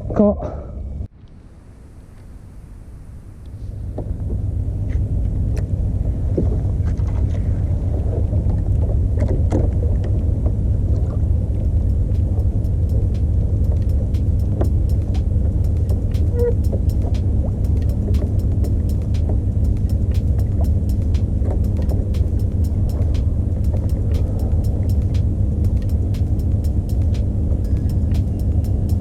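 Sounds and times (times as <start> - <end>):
outboard motor drone: 3.6 - 29.0.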